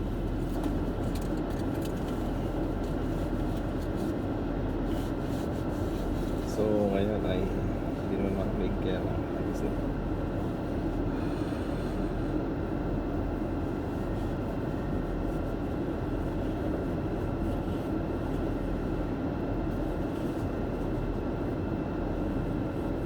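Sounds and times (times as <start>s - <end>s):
heater fan: 0.0s - 23.0s.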